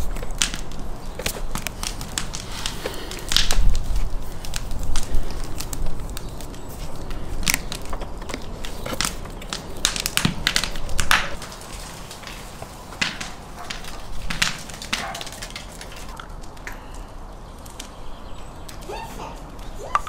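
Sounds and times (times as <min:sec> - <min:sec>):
sharp clicks and crackles: 0:00.0 - 0:18.0.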